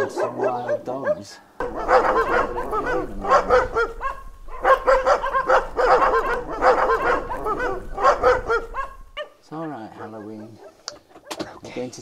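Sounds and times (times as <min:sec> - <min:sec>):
dogs barking: 0:00.0 - 0:11.4.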